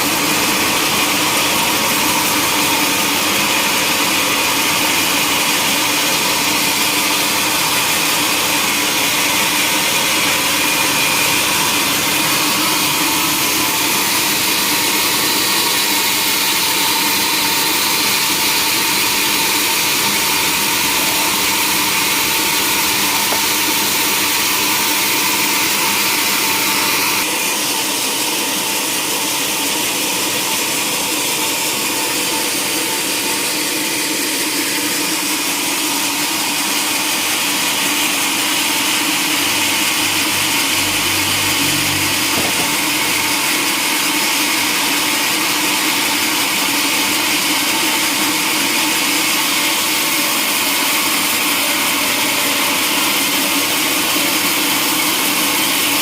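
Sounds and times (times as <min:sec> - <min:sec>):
sawmill machinery sawing log: 0:00.0 - 0:56.0.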